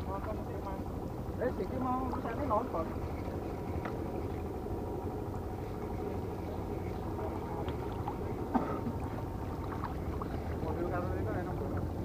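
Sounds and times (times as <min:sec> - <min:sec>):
low harbour rumble: 0:00.0 - 0:12.0.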